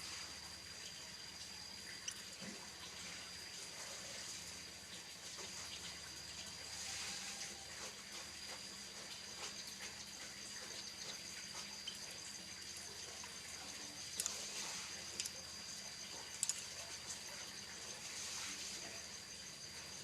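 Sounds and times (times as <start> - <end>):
running water hiss: 0.0 - 20.0.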